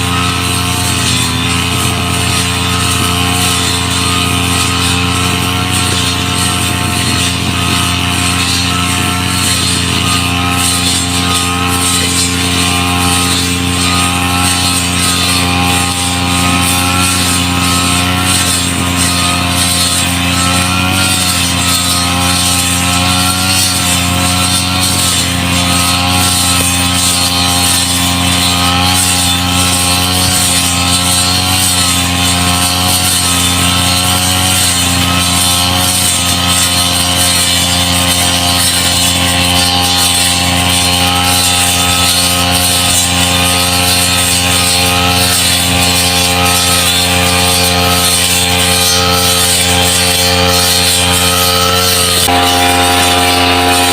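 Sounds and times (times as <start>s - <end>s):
brush cutter engine running: 0.0s - 53.9s.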